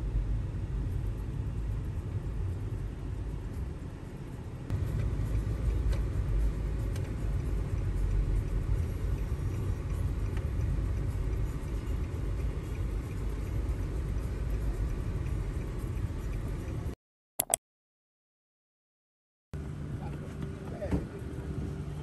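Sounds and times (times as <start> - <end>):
car engine and road rumble: 0.0 - 17.0, 19.6 - 22.0.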